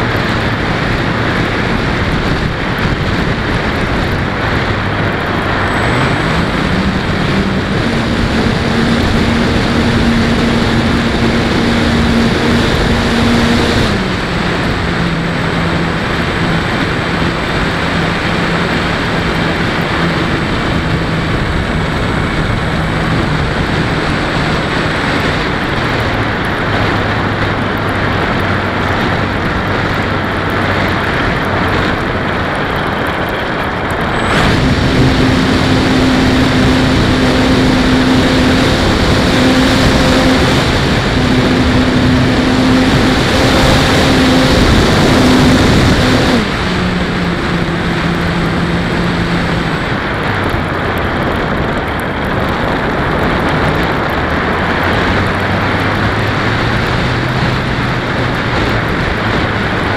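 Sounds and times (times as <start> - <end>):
electric motor and propeller whine: 0.0 - 59.9
wind rushing: 0.0 - 59.9.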